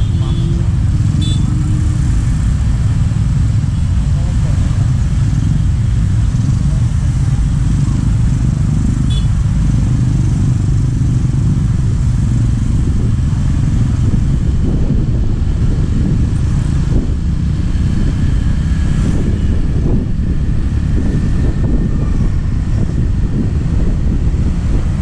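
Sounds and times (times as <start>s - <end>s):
motorcycle engines in traffic: 0.0s - 25.0s
wind rumble on microphone: 0.0s - 25.0s.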